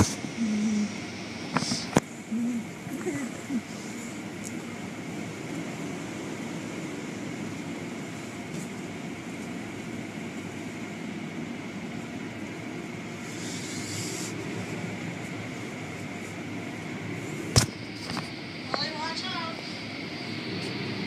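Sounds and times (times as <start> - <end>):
car wash machinery running: 0.0 - 21.0
thin high whine: 0.0 - 21.0.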